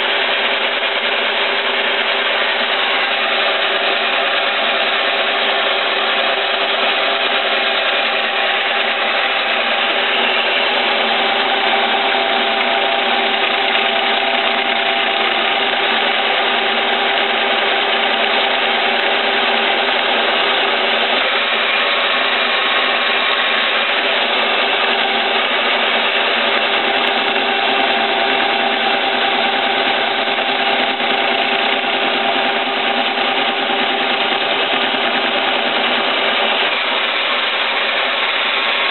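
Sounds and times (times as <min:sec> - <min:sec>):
milling machine cutting metal: 0:00.0 - 0:38.9.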